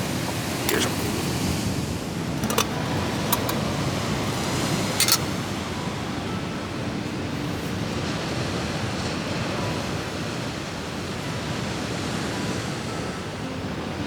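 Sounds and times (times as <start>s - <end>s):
sea surf: 0.0s - 14.0s
wind: 0.0s - 14.0s.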